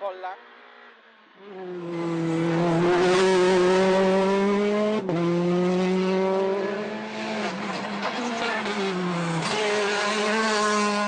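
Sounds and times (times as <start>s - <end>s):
rally car engine at high revs: 0.5s - 11.0s.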